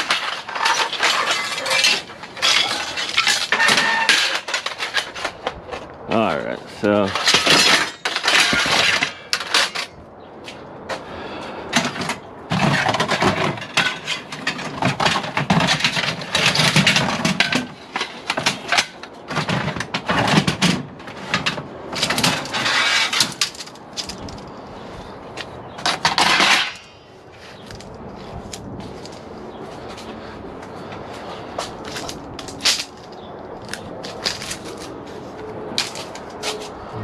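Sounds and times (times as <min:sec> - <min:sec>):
aluminium lengths clanking and scraping: 0:00.0 - 0:11.0, 0:11.7 - 0:36.9.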